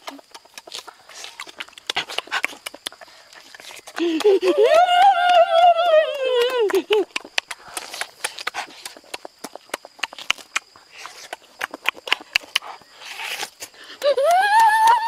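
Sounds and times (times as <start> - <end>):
chewing and lip-smacking: 0.0 - 4.7, 5.3 - 14.7.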